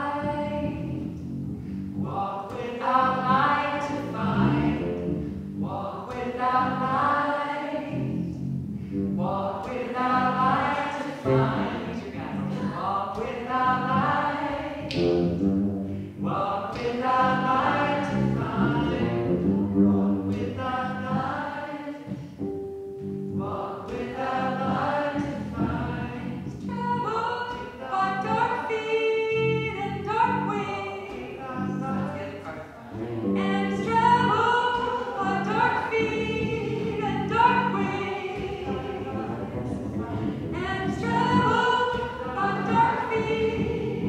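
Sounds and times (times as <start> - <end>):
group of people singing: 0.0 - 0.9, 2.0 - 5.0, 5.6 - 8.2, 9.2 - 15.0, 16.2 - 22.3, 23.4 - 44.0
woman singing into a microphone: 0.0 - 1.1, 2.1 - 4.9, 5.6 - 8.2, 9.2 - 14.9, 16.3 - 19.1, 20.3 - 22.2, 23.4 - 32.7, 33.4 - 44.0.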